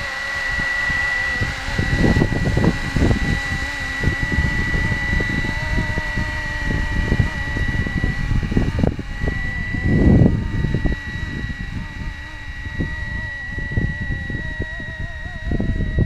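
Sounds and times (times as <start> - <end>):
model helicopter motor whine: 0.0 - 16.0
wind buffeting microphone: 0.0 - 16.0.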